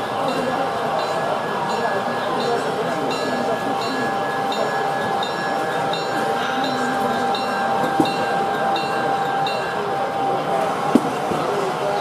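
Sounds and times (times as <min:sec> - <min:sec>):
locomotive bell ringing: 0:00.0 - 0:12.0
model train diesel engine sound: 0:00.0 - 0:12.0.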